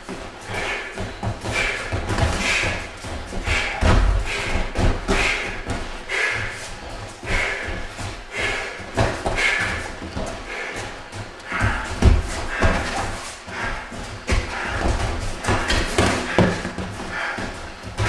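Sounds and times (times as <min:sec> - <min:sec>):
feet shifting on floor: 0:00.0 - 0:18.0
padded gloves and kicks thudding: 0:00.0 - 0:18.0.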